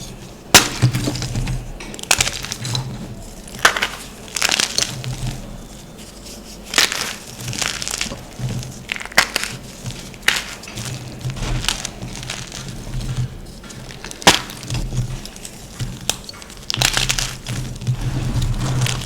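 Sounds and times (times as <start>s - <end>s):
chalk crunching: 0.0s - 19.0s.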